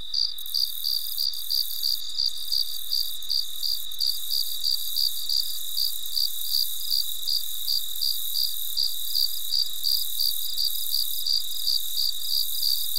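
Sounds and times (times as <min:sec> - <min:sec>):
crickets chirping: 0:00.0 - 0:12.9.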